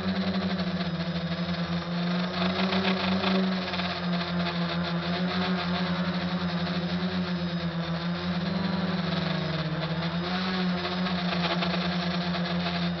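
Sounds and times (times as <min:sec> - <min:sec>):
drone motors and propellers buzzing: 0:00.0 - 0:13.0.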